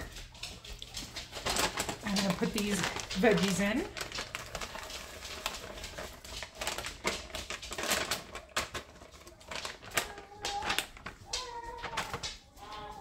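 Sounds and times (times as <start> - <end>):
crinkly bag: 0.0 - 13.0
frozen vegetables rattling into pot: 0.0 - 13.0.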